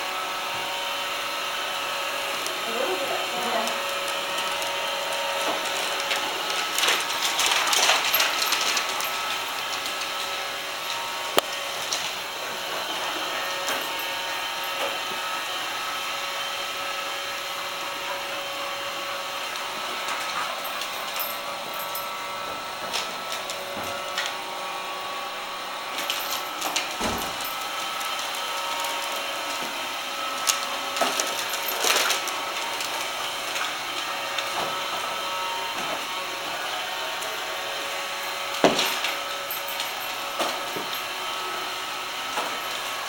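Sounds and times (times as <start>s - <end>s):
robot vacuum whirring: 0.0s - 43.0s.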